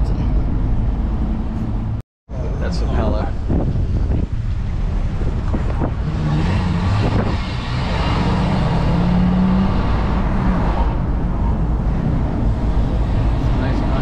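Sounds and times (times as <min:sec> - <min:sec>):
road rumble: 0:00.0 - 0:14.0
vehicle engine humming: 0:00.0 - 0:14.0
wind: 0:00.0 - 0:14.0.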